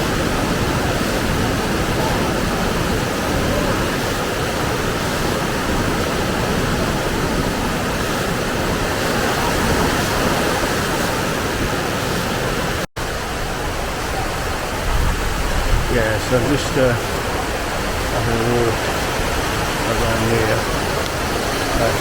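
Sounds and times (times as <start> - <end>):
waterfall rushing into pool: 0.0 - 22.0.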